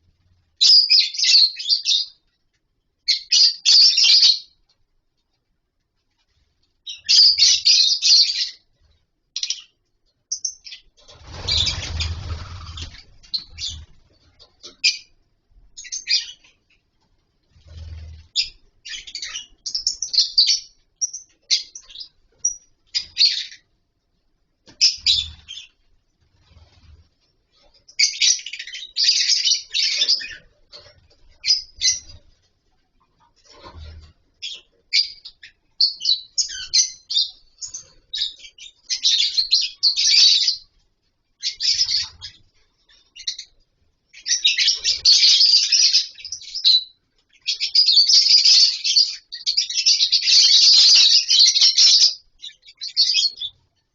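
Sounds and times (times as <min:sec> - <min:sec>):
lovebirds chirping: 0:00.0 - 0:02.3, 0:03.0 - 0:04.6, 0:06.3 - 0:16.9, 0:17.5 - 0:23.7, 0:24.7 - 0:32.5, 0:33.4 - 0:40.8, 0:41.4 - 0:53.7.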